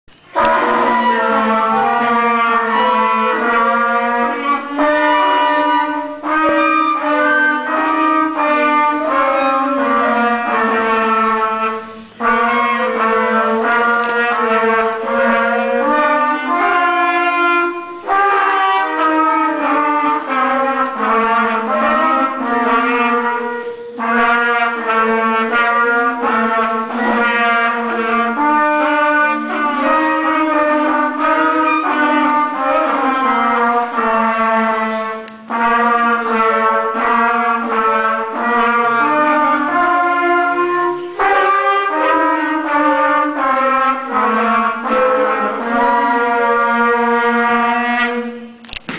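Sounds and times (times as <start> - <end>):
flute ensemble playing: 0.2 - 48.9.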